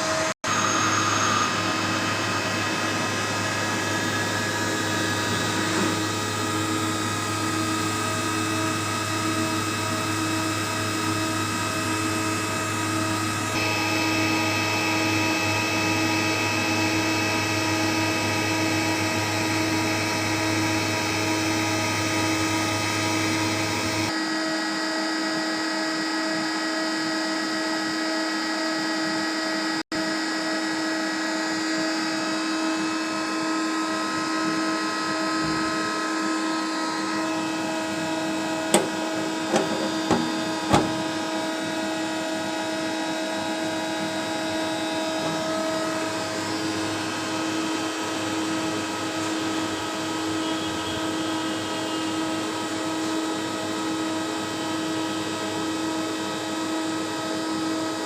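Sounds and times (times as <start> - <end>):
machine humming and whining: 0.0 - 58.0.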